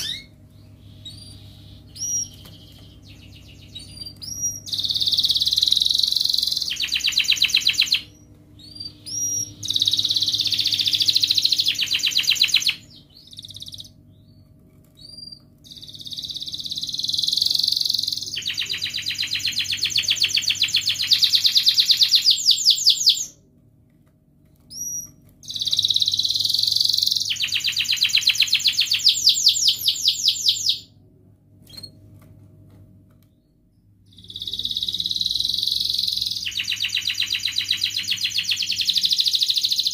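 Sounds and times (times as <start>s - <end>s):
canary singing trills: 0.0s - 23.4s, 24.7s - 30.9s, 33.4s - 39.9s.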